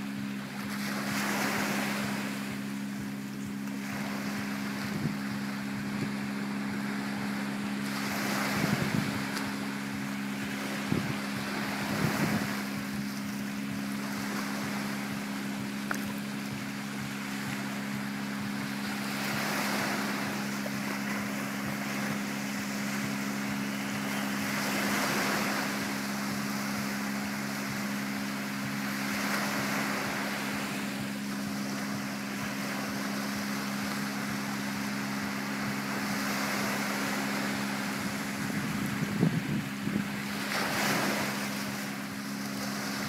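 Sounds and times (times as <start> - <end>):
small waves washing on sand: 0.0 - 43.0
steady low hum: 0.0 - 43.0.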